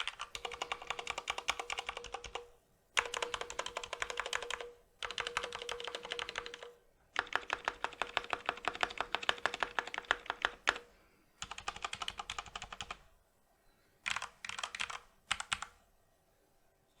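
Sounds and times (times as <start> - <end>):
typing on mechanical keyboard: 0.0 - 13.1, 14.0 - 15.8.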